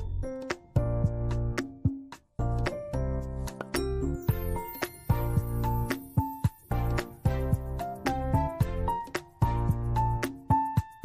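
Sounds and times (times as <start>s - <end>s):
instrumental music with bass line: 0.0s - 11.0s.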